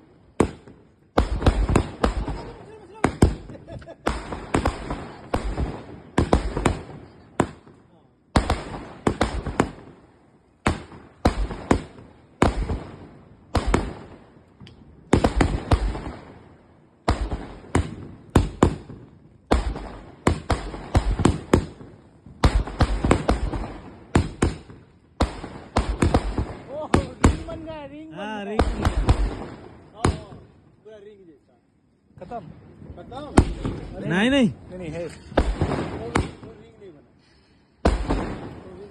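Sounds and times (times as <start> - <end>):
firework bangs: 0.0 - 31.2, 32.1 - 37.0, 37.8 - 38.9
firework crackle: 0.0 - 31.5, 37.8 - 38.9.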